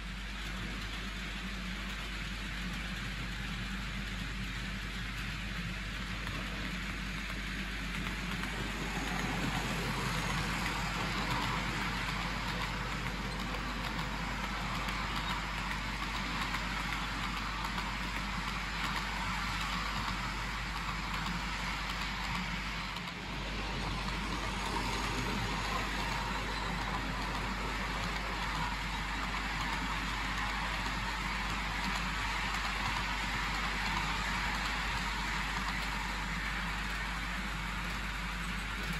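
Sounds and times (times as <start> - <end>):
model train whirring along track: 0.0 - 38.9.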